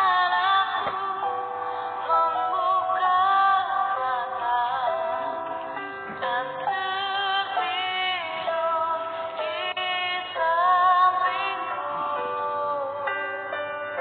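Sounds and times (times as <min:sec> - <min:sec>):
woman singing with vibrato: 0:00.0 - 0:14.0.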